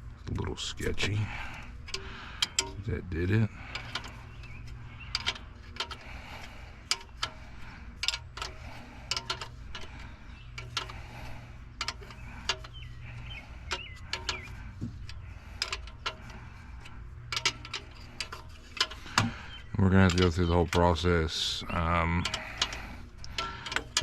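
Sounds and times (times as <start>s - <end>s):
low hum: 0.0s - 24.0s
wrench clicking on metal fittings: 1.9s - 2.9s, 3.5s - 7.4s, 8.0s - 11.2s, 11.8s - 24.0s.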